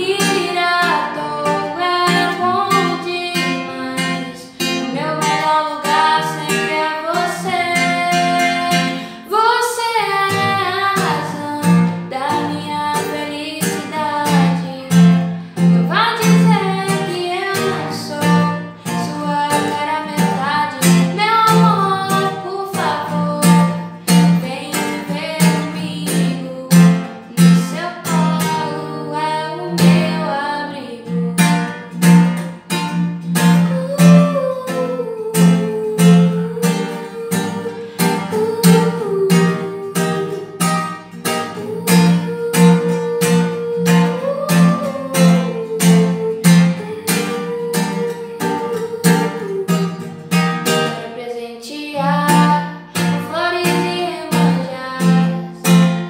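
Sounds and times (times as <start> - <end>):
acoustic guitar strumming: 0.0 - 56.0
woman singing: 0.0 - 56.0.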